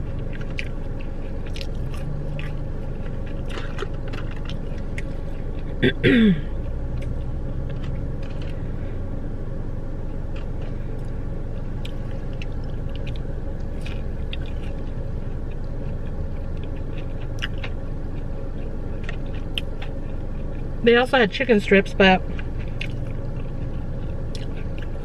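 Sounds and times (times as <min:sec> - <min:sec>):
person chewing food: 0:00.0 - 0:20.8, 0:22.2 - 0:25.0
steady low hum: 0:00.0 - 0:25.0.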